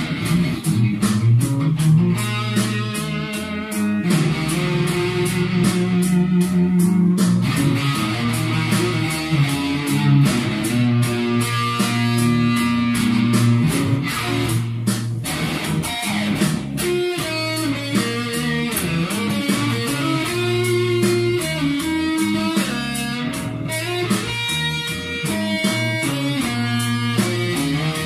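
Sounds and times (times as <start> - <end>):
electric guitar blues-rock line: 0.0 - 28.0
steady backing beat: 0.0 - 28.0.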